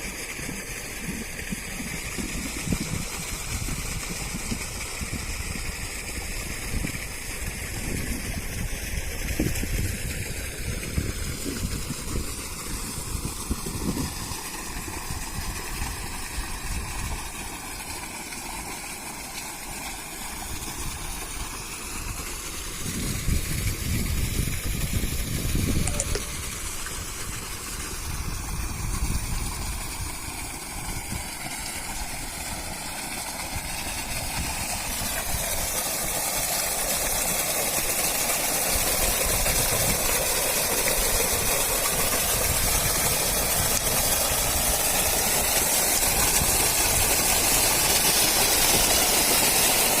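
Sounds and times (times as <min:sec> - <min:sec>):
pumped water rushing: 0:00.0 - 0:50.0
water pump motor running: 0:00.0 - 0:50.0.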